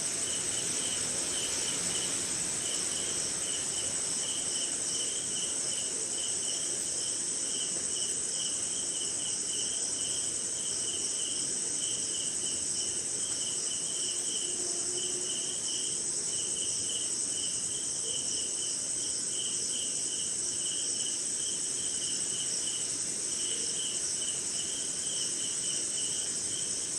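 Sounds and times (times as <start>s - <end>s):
crickets trilling: 0.0s - 26.9s
lower insect call pulsing: 0.0s - 26.9s.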